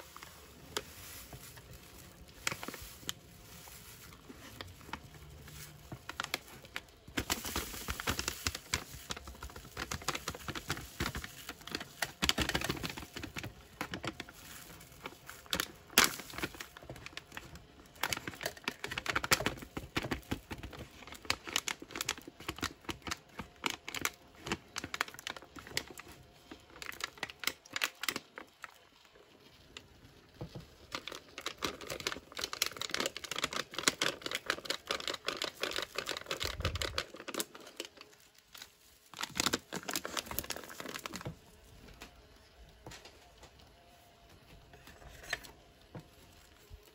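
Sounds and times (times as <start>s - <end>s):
foil pouch crinkling: 0.0s - 43.7s, 44.6s - 46.9s.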